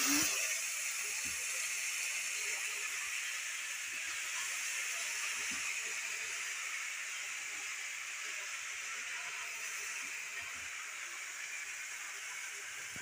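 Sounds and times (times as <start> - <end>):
leaves sizzling in hot oil: 0.0 - 13.0.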